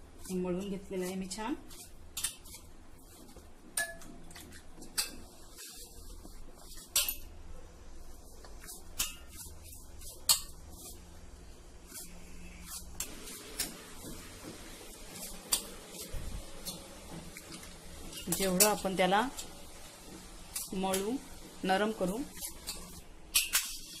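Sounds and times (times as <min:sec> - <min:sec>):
hands kneading dough: 0:00.0 - 0:24.0.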